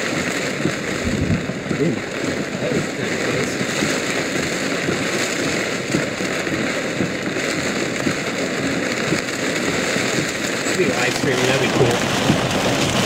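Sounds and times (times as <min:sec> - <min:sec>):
heavy rain on car roof: 0:00.0 - 0:13.0.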